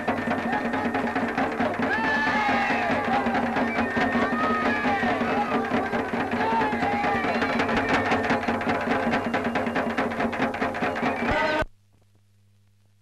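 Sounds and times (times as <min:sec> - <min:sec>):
fast drumming: 0:00.0 - 0:11.6.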